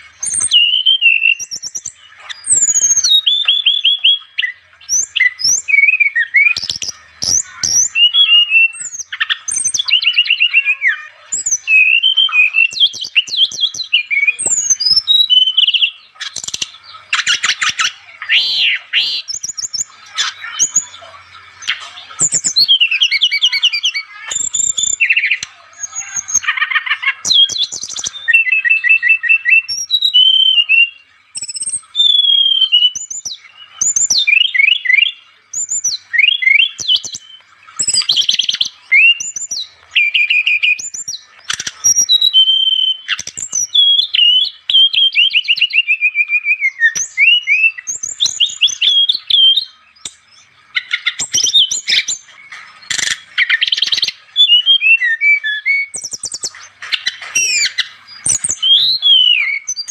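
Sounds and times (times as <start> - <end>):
bird singing whistles and trills: 0.0 - 59.9.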